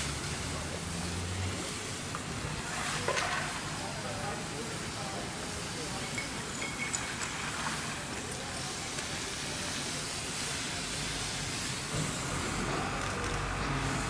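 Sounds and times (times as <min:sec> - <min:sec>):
hose jet spraying water on asphalt: 0:00.0 - 0:14.0.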